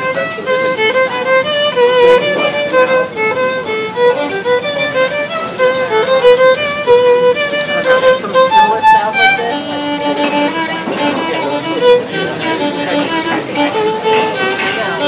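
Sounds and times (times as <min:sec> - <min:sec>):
solo violin tune: 0:00.0 - 0:15.0.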